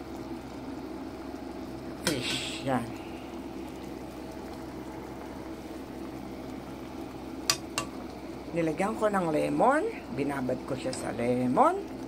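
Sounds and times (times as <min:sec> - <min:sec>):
low steady hum: 0:00.0 - 0:12.0
sauce bubbling in frying pan: 0:00.0 - 0:12.0.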